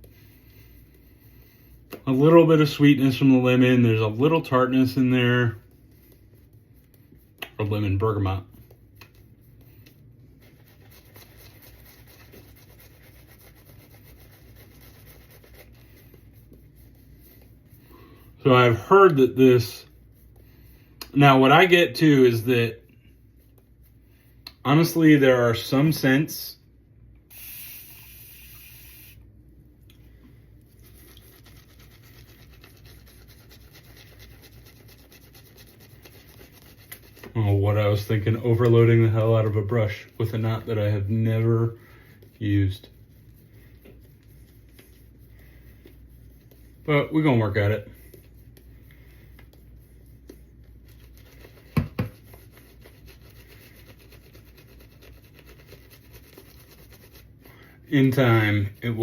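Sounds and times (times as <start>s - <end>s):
shaving brush scrubbing lather: 0.0s - 24.0s, 30.7s - 59.0s.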